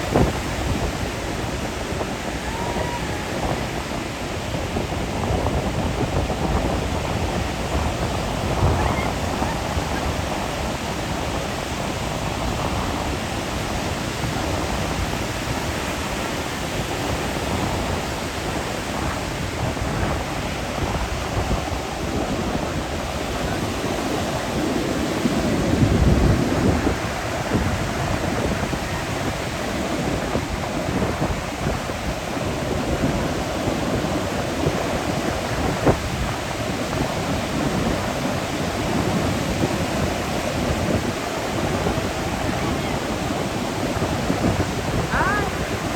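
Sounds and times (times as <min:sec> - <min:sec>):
ocean surf breaking: 0:00.0 - 0:45.9.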